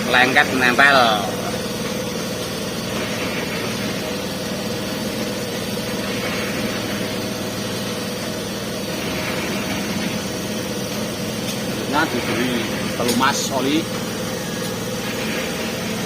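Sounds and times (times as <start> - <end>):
concrete mixer engine humming: 0.0 - 16.0.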